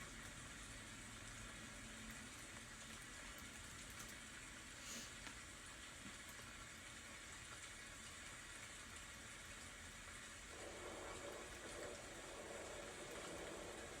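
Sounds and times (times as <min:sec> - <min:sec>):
low rain patter: 0:00.1 - 0:14.0
faint rain hiss: 0:00.2 - 0:14.0.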